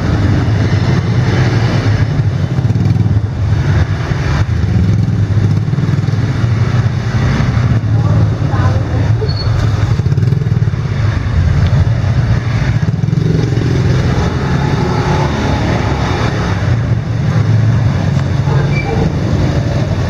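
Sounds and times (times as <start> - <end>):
motorbike engines running: 0.0 - 20.0.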